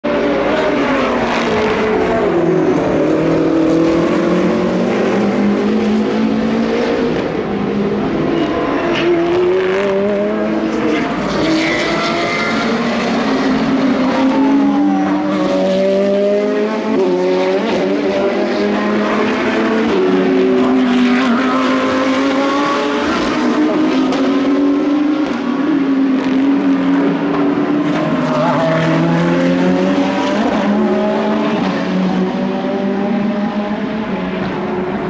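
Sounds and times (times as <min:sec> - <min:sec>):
sports car engines racing: 0:00.0 - 0:35.0.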